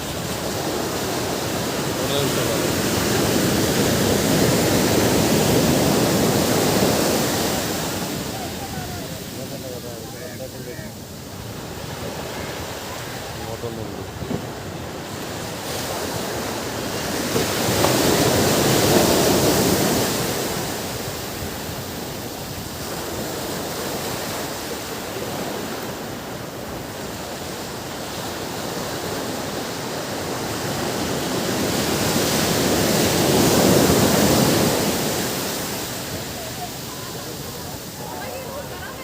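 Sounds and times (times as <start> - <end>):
ocean surf breaking on beach: 0.0 - 39.0.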